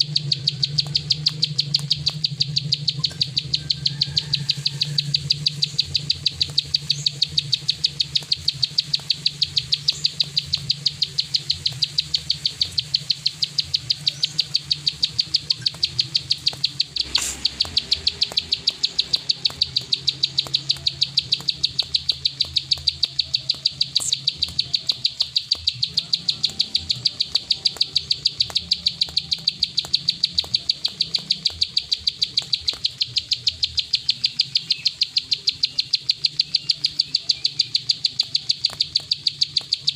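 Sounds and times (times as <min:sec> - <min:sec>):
bird singing clicking notes: 0:00.0 - 0:39.9.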